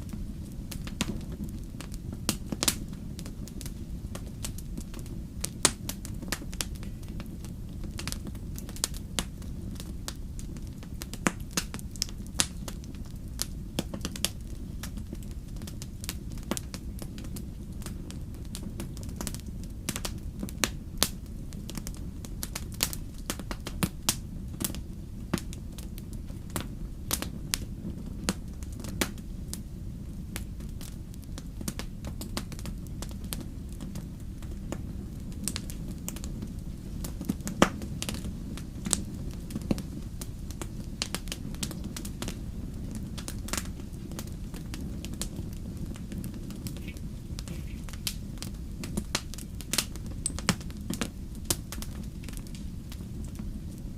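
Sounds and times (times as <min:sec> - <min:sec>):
low fire rumble: 0:00.0 - 0:53.9
wood fire crackling and popping: 0:00.0 - 0:53.9.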